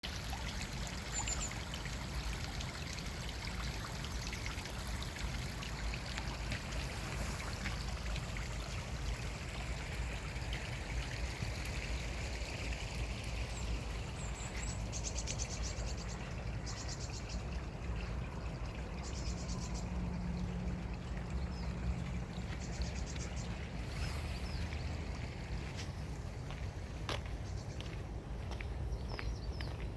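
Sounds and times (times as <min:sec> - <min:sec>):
stream water running: 0:00.0 - 0:29.9.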